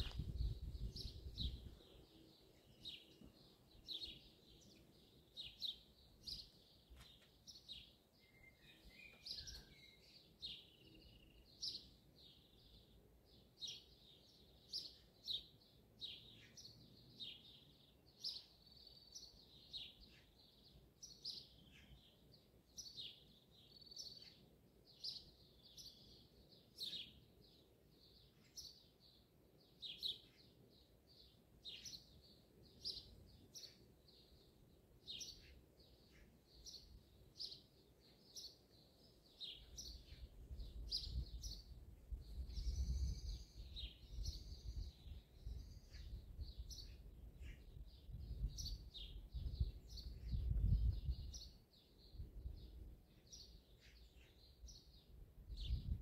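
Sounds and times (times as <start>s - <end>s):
birds chirping: 0.0s - 13.0s, 13.6s - 56.0s.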